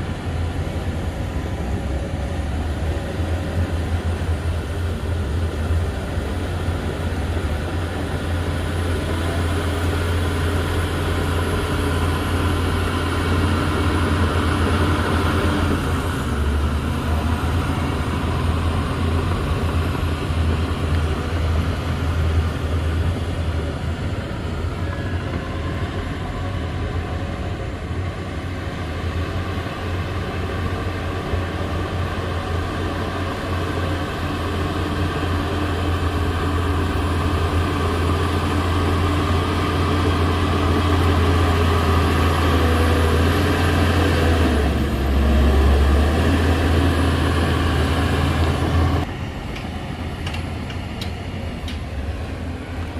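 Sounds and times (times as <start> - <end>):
heavy diesel engine rumbling: 0.0 - 52.9.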